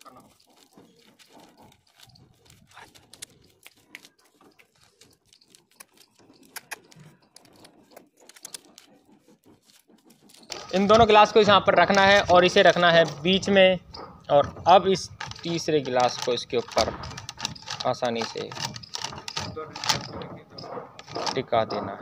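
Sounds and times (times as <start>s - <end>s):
paper being folded and creased: 0.0s - 13.6s, 14.4s - 20.2s.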